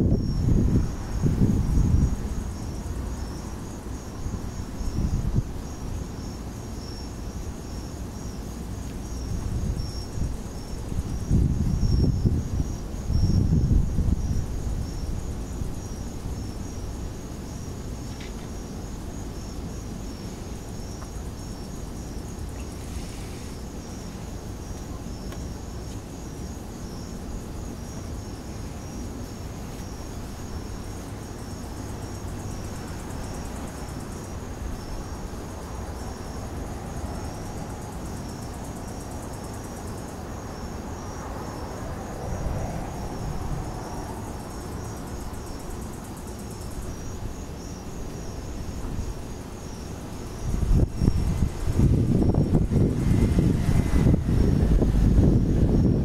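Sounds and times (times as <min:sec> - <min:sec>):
crickets chirping: 0:00.0 - 0:56.0
insect trill: 0:00.0 - 0:56.0
low wind rumble on microphone: 0:00.0 - 0:56.0.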